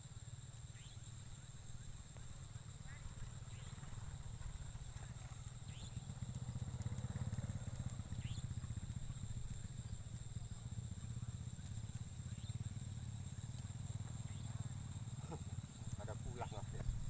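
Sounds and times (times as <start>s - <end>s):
high insect whine: 0.0s - 17.0s.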